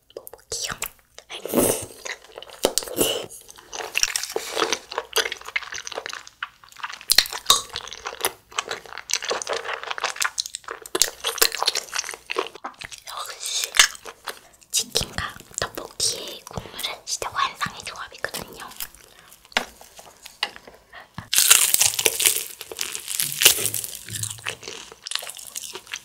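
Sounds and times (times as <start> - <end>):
wet chewing with clicks: 2.0 - 26.0.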